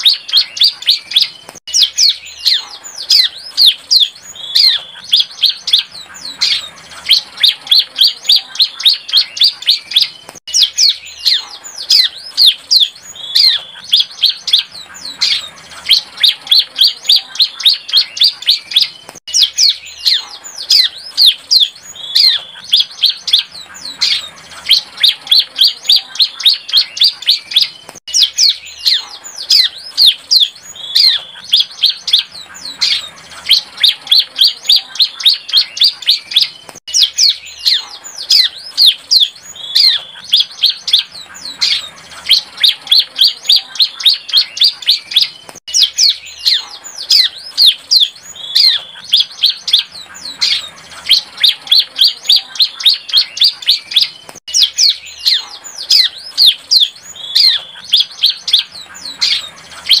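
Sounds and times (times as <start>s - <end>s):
bird singing sharp high chirps: 0.0s - 60.0s.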